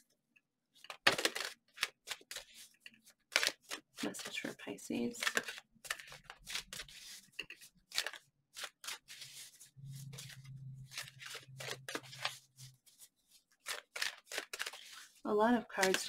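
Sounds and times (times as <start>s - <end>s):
cards being shuffled: 0.8s - 16.0s.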